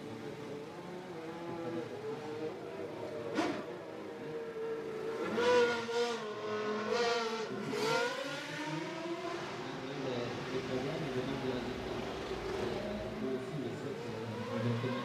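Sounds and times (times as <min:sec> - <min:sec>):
racing car engines: 0:00.0 - 0:15.0
race car passing: 0:02.3 - 0:15.0.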